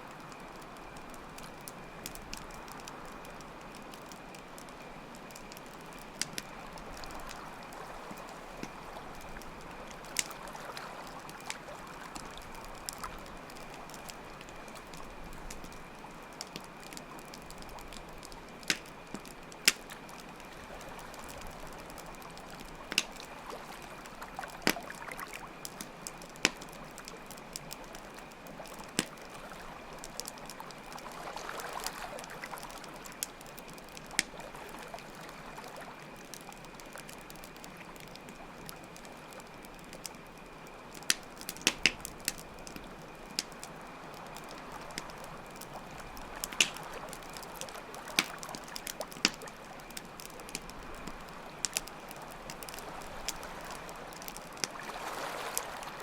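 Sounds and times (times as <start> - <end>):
campfire crackling and popping: 0.0 - 56.0
crickets trilling: 0.0 - 56.0.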